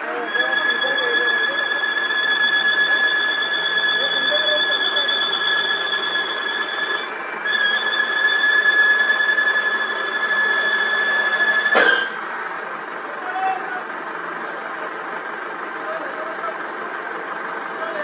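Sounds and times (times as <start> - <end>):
hydraulic pump whine: 0.0 - 18.0.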